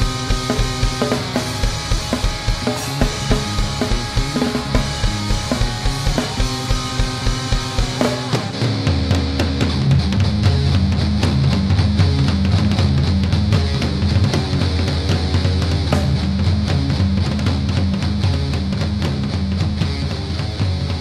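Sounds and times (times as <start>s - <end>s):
rock music: 0.0s - 21.0s.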